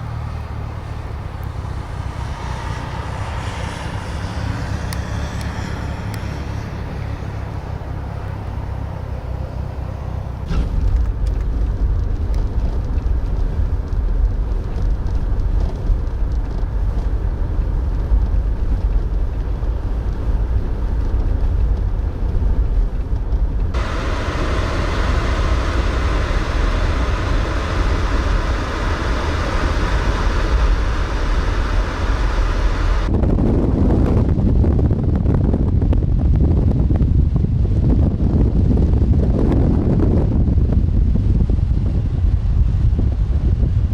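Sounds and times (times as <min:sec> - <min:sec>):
low rumble of vehicles: 0:00.0 - 0:43.9
wind noise on microphone: 0:00.0 - 0:43.9.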